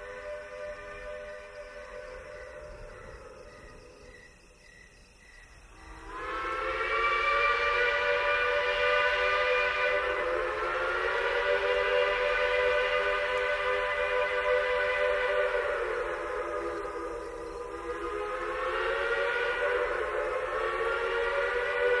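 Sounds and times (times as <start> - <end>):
steam whistle blast: 0.0 - 3.1, 5.8 - 22.0.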